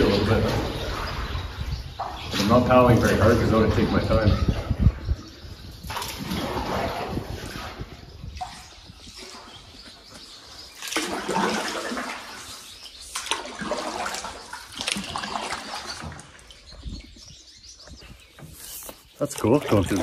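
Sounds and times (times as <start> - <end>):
water splashing around a canoe: 0.0 - 5.0, 5.8 - 17.2, 18.2 - 20.0
swallows twittering: 0.0 - 20.0.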